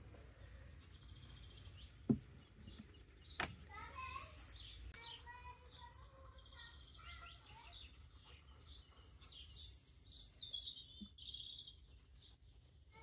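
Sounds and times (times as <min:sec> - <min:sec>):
birds chirping and twittering: 0:00.0 - 0:13.0.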